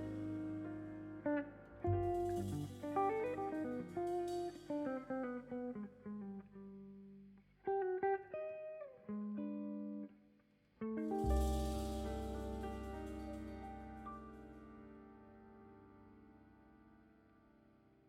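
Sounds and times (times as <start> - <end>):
plucked guitar melody: 0.0 - 7.1, 7.7 - 10.1, 10.8 - 16.4
bass: 0.0 - 8.0, 10.8 - 18.0.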